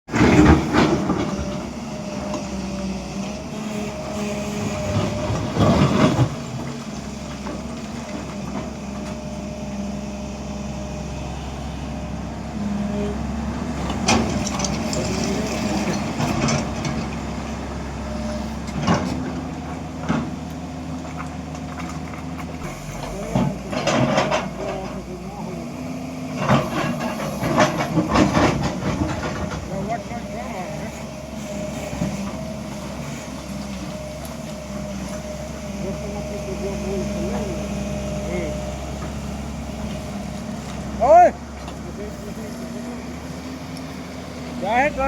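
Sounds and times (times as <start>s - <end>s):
diesel engine humming: 0.1s - 45.0s.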